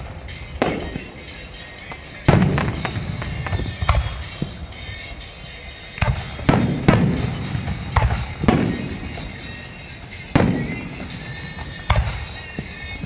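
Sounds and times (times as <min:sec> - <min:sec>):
fireworks bangs with echo: 0:00.0 - 0:13.0
music on a radio: 0:00.0 - 0:13.0.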